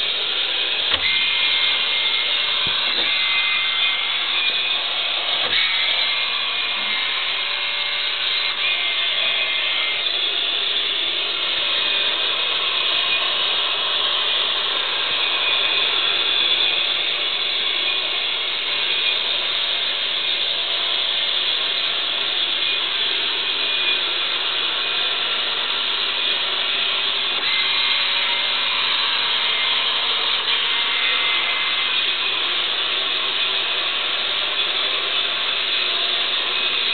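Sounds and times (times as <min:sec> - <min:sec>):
small electric motors whirring: 0:00.0 - 0:36.9.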